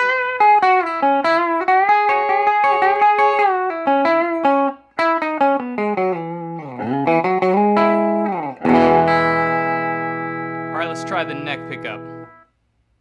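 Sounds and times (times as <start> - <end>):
clean electric guitar lead lines: 0.0 - 12.5.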